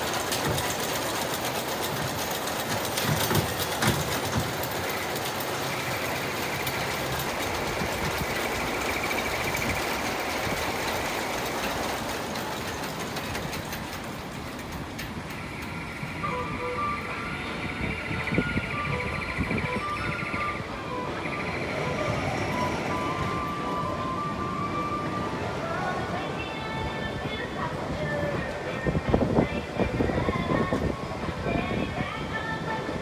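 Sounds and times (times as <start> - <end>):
roller coaster lift clicking: 0.0 - 33.0.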